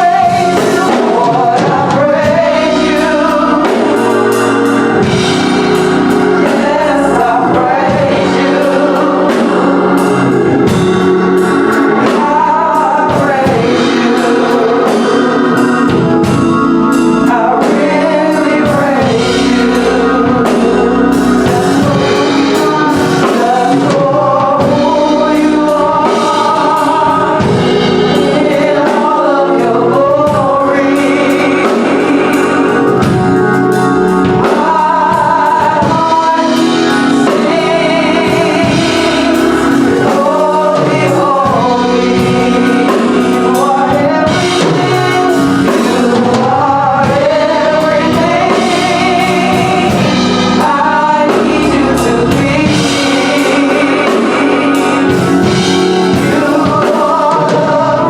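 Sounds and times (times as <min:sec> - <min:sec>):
choir singing gospel song: 0:00.0 - 0:58.0.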